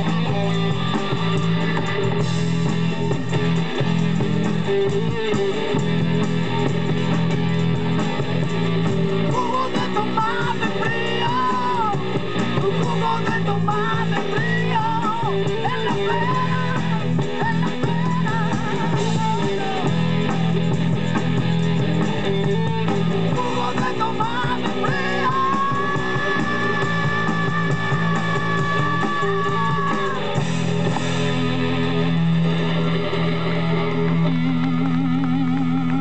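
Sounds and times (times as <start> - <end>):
blues-rock band playing live: 0.0 - 36.0.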